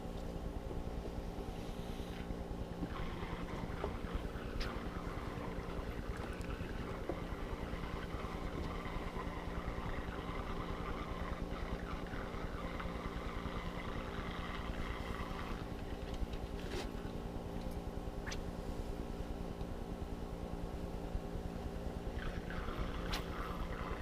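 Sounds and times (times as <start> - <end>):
constant hiss: 0.0 - 24.0
mechanical hum: 0.0 - 24.0.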